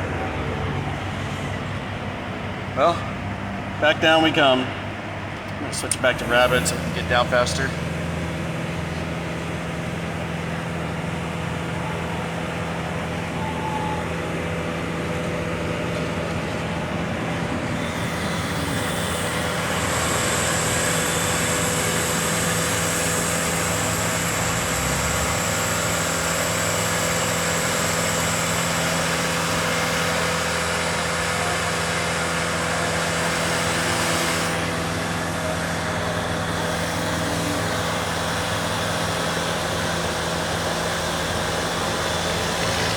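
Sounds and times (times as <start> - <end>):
engine and hydraulic hum: 0.0 - 42.9
high whine: 5.8 - 42.5.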